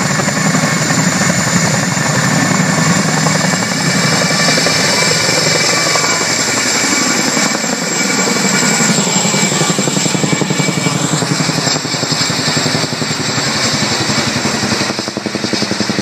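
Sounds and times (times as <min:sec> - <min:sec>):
helicopter rotors beating: 0:00.0 - 0:16.0
high turbine whine: 0:00.0 - 0:16.0.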